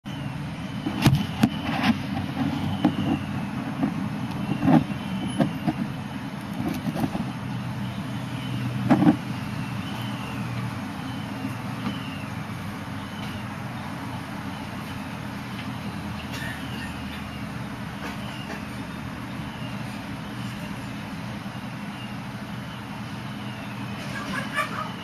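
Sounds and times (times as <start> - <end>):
steady low hum: 0.1 - 25.0.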